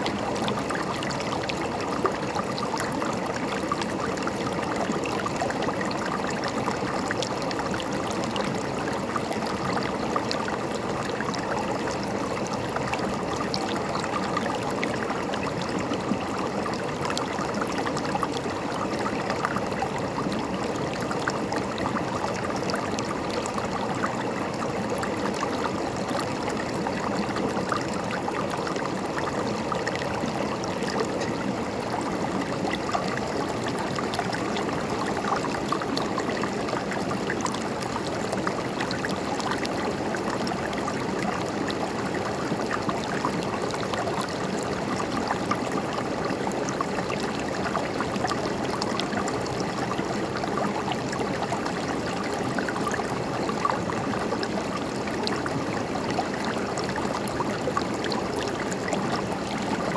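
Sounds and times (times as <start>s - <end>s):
river gurgling over stones: 0.0s - 59.9s.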